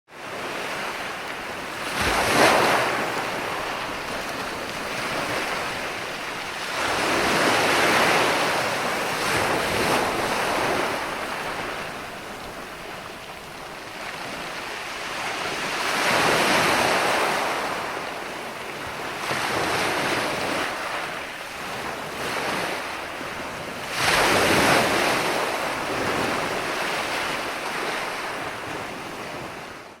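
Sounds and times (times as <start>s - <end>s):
ocean waves breaking on beach: 0.1s - 30.0s.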